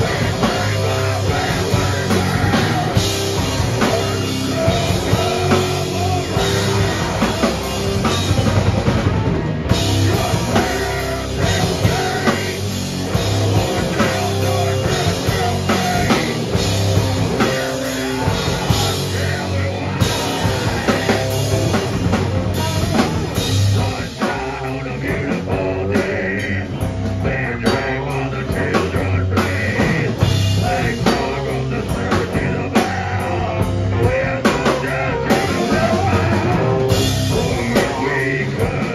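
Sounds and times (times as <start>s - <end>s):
person singing: 0.0s - 8.2s, 9.7s - 38.9s
bass guitar: 0.0s - 38.9s
drum kit: 0.0s - 38.9s
electric guitar: 0.0s - 38.9s.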